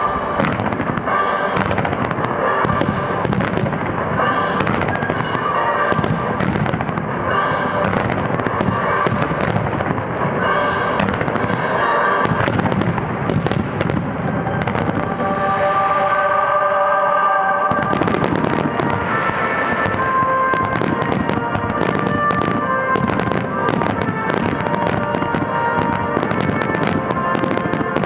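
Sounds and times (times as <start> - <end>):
fireworks launching and bursting: 0.0 - 16.3, 17.7 - 28.0
music: 0.0 - 28.0.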